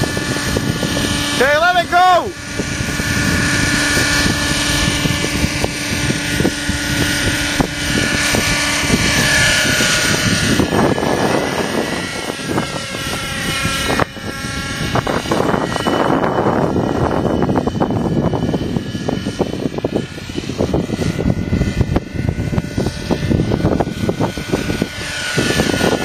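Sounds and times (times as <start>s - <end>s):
model helicopter engine whine: 0.0s - 26.0s
wind buffeting microphone: 0.0s - 26.0s.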